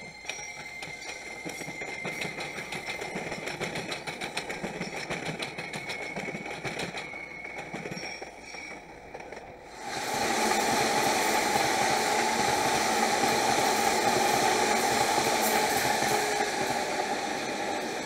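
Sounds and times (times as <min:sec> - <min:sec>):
electric train passing close by: 0:00.0 - 0:18.0.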